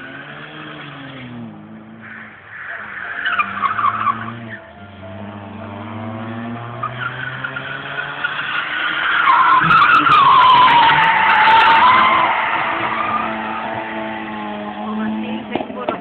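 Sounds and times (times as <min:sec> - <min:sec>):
car engine under throttle: 0:00.0 - 0:16.0
tyres squealing: 0:02.0 - 0:16.0.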